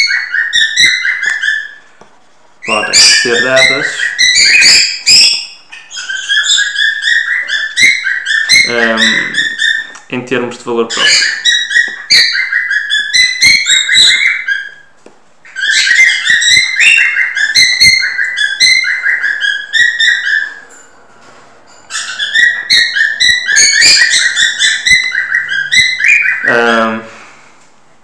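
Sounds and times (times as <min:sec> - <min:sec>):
songbird singing: 0:02.6 - 0:21.0, 0:21.8 - 0:27.0.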